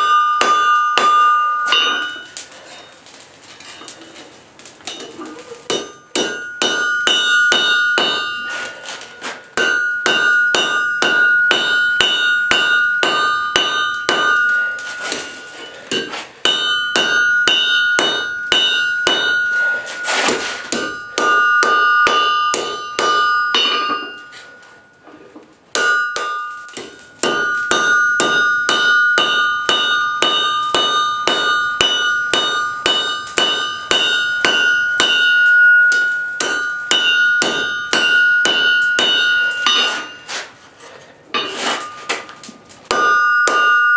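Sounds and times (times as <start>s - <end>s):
hammer striking steel on anvil: 0.0s - 2.5s, 4.9s - 25.0s, 25.7s - 40.6s, 41.4s - 43.9s.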